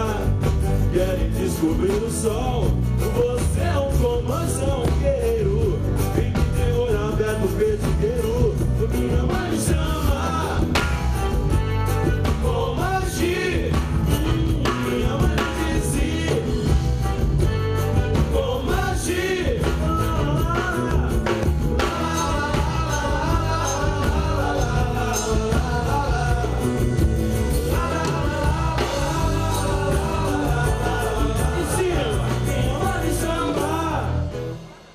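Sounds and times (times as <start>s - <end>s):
bass and drums groove: 0.0s - 34.9s.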